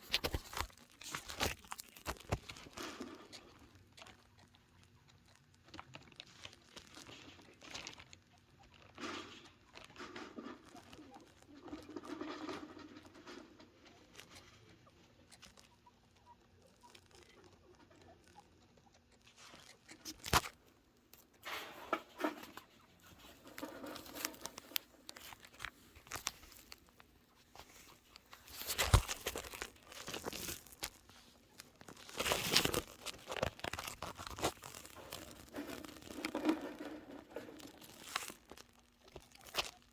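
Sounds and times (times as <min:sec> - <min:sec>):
chinchillas scrabbling and rustling: 0:00.0 - 0:39.9.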